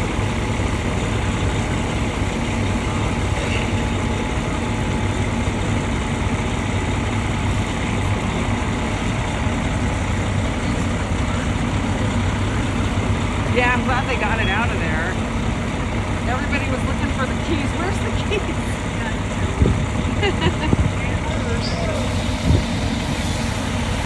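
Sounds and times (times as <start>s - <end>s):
fire truck engine idling: 0.0s - 24.0s.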